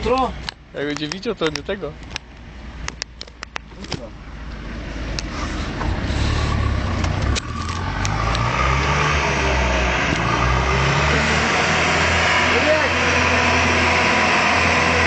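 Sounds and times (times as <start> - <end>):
large vehicle engine running: 0.0 - 15.0.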